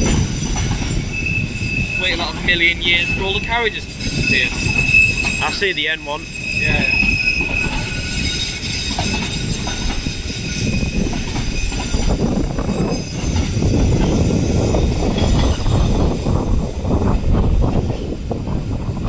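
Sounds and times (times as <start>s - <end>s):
train wheels rumbling on rail: 0.0s - 19.0s
high-pitched wheel squeal: 0.3s - 15.9s.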